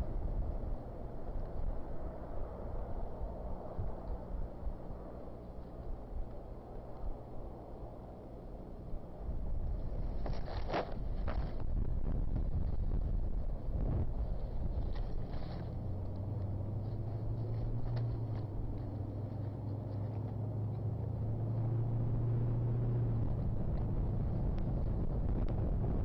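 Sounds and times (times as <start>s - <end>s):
low engine hum: 0.0s - 26.0s
low rumble: 0.0s - 26.0s.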